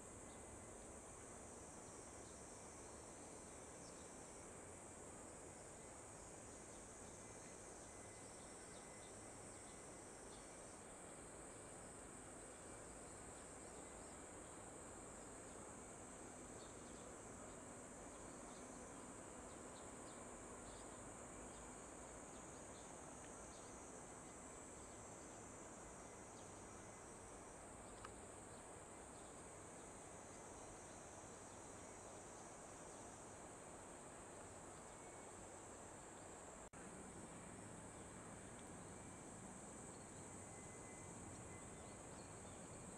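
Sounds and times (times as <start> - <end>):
high-pitched insect chorus: 0.0 - 42.9.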